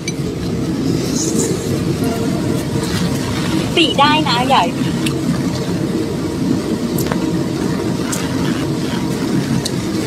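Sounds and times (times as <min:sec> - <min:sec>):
low engine-like rumble: 0:00.0 - 0:10.0.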